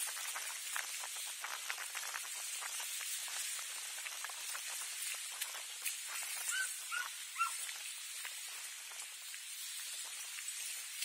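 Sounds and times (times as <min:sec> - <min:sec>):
faint crackles and ticks: 0:00.0 - 0:11.0
steady outdoor hiss: 0:00.0 - 0:11.0.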